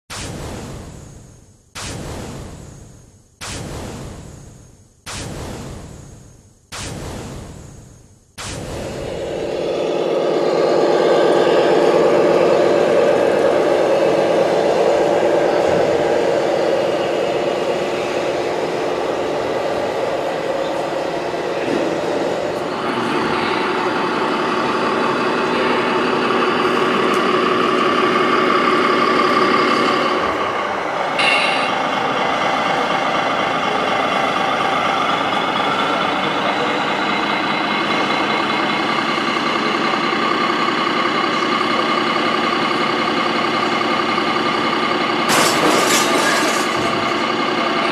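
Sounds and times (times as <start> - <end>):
simulated diesel engine from speaker: 8.4 - 47.9.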